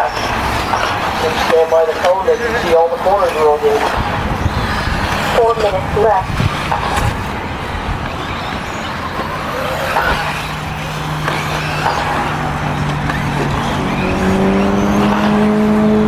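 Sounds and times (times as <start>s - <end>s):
rc buggies running: 0.0s - 16.0s
rising droning tone: 0.0s - 16.0s.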